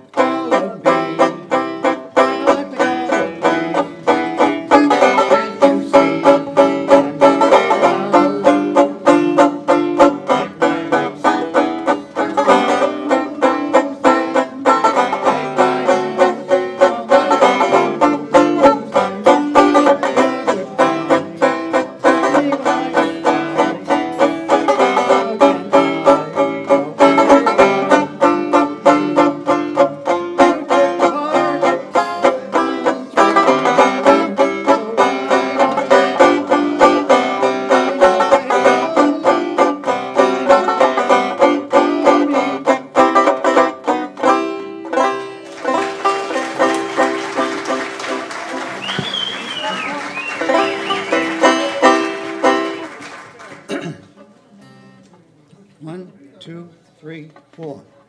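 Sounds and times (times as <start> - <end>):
banjo picking a tune: 0.0 - 55.2.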